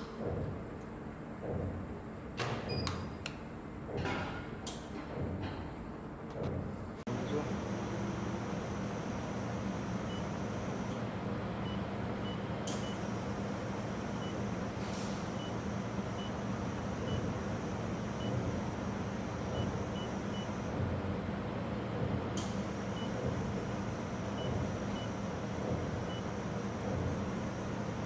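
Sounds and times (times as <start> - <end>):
steady machine hum: 5.1 - 28.0.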